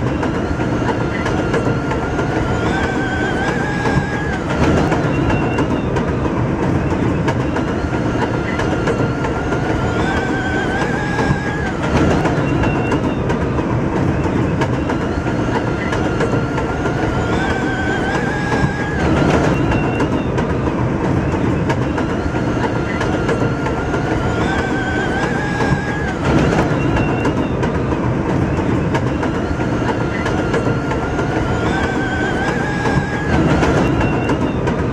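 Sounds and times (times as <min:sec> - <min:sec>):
train wheels clattering on rail: 0:00.0 - 0:34.9.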